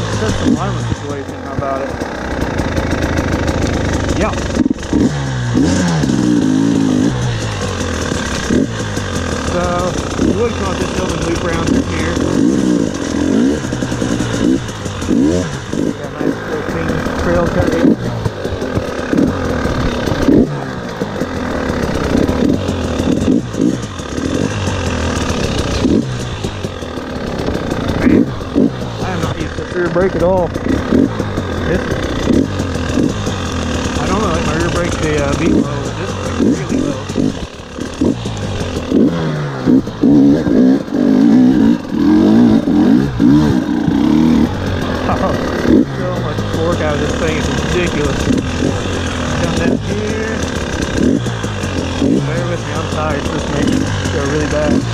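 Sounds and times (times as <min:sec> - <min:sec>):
two-stroke motorcycle engine revving: 0:00.0 - 0:54.9.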